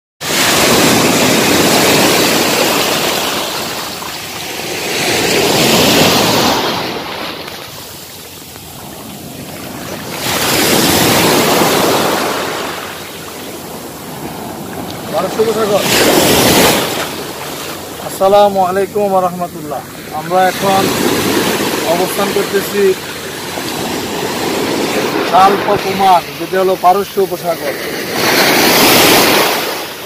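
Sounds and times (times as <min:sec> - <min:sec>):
small waves washing up beach: 0:00.2 - 0:30.0.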